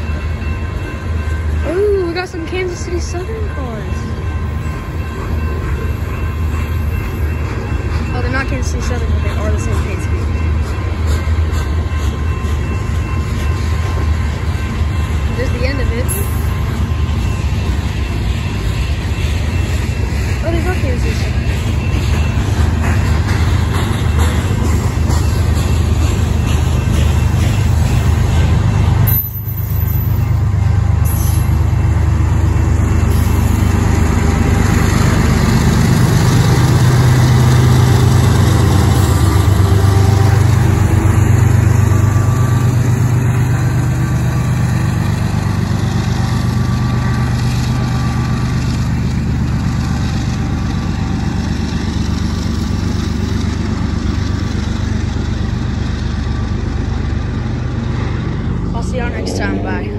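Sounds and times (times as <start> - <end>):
diesel locomotive engine hum: 0.0 - 59.9
freight train rumbling on rails: 0.0 - 59.9.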